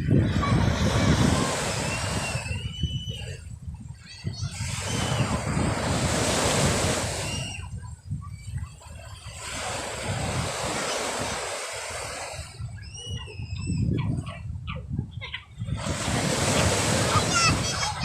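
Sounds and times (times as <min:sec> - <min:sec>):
waves washing onto shore: 0:00.0 - 0:12.9, 0:15.7 - 0:18.0.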